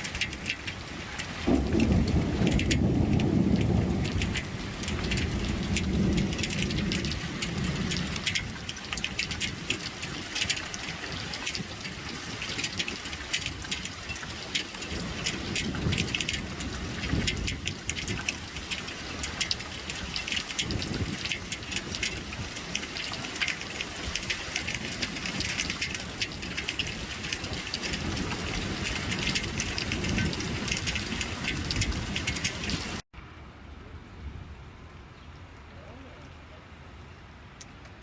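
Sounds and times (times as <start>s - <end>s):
hail striking hard surfaces: 0.0s - 33.0s.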